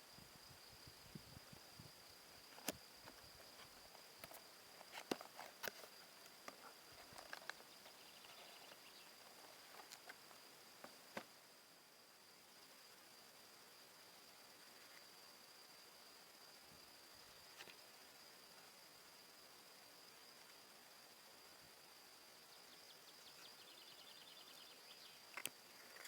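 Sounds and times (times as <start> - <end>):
faint hiss: 0.0 - 26.0.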